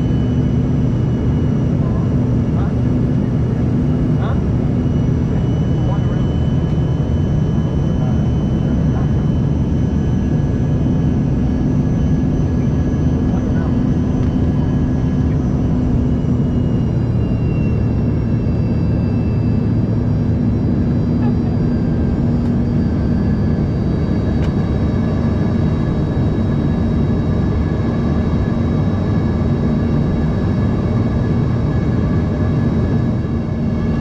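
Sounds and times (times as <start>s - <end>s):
jet engine drone: 0.0s - 34.0s
low hum: 0.0s - 34.0s.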